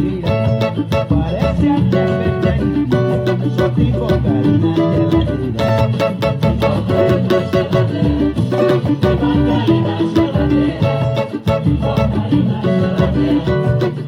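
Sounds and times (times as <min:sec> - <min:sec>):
instrumental samba music: 0:00.0 - 0:14.0.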